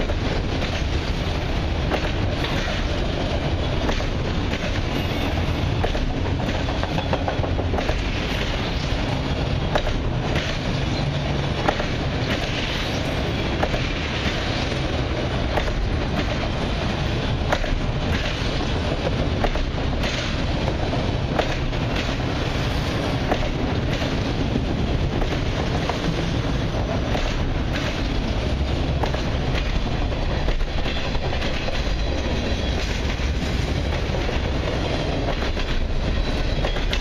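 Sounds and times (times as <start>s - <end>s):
freight cars rolling on rails: 0.0s - 37.0s.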